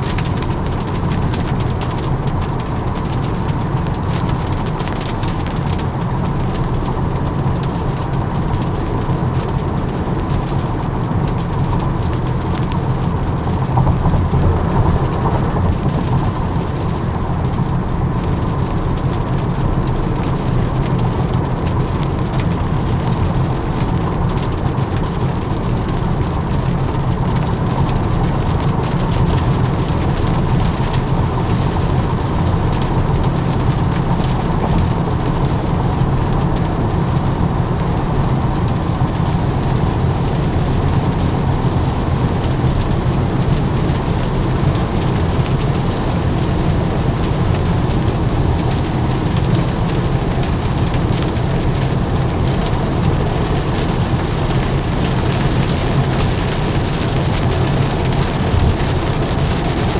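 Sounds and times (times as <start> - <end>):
rain hiss: 0.0 - 59.9
tyres rumbling on wet road: 0.0 - 59.9.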